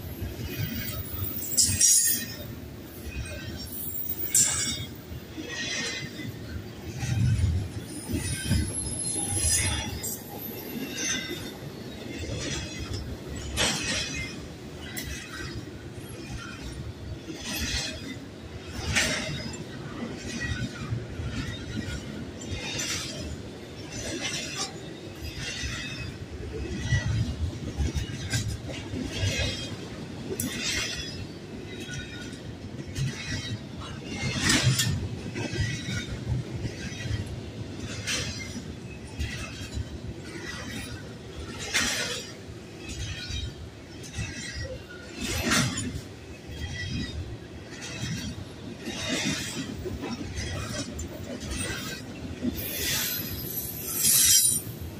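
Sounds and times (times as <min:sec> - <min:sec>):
train wheels rumbling on rails: 0:00.0 - 0:54.9.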